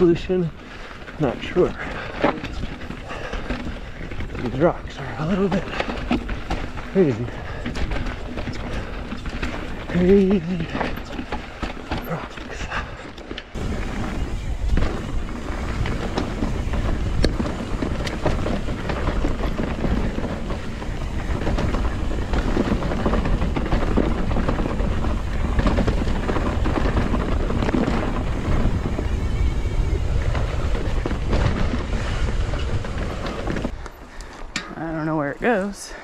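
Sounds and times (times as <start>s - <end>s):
tyres crunching over dirt and rocks: 0.0s - 35.8s
bike rattling and clattering: 0.0s - 36.0s.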